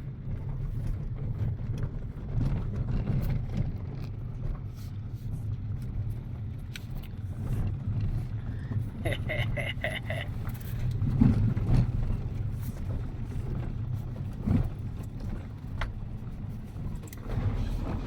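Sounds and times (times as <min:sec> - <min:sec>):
car driving on gravel: 0:00.0 - 0:18.0.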